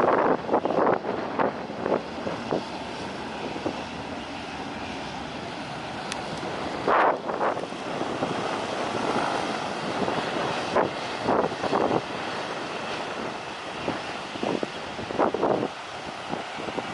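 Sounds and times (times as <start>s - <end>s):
rushing aircraft engine: 0.0s - 16.9s
wind buffeting microphone: 0.0s - 16.9s.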